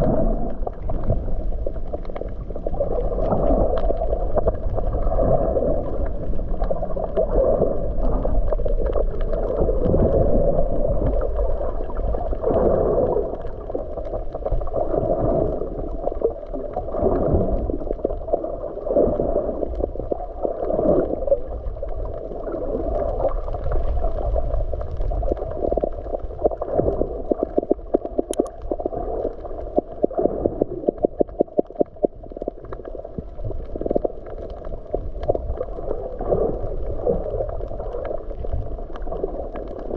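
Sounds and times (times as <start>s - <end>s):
underwater gurgling and sloshing: 0.0s - 39.9s.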